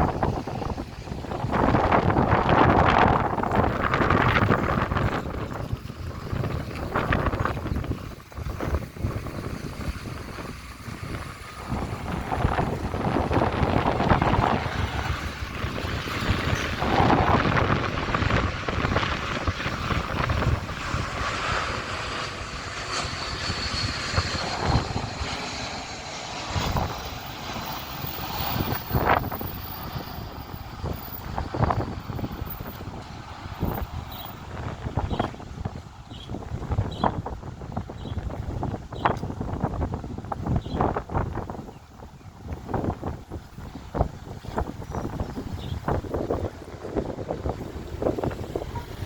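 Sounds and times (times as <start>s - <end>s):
jet engines running: 0.0s - 49.0s
wind buffeting microphone: 0.0s - 49.0s.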